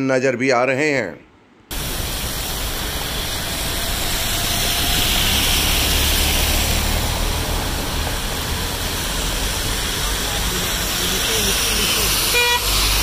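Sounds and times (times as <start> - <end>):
low engine rumble: 1.7 - 13.0
rain and tyres hissing on wet road: 1.7 - 13.0.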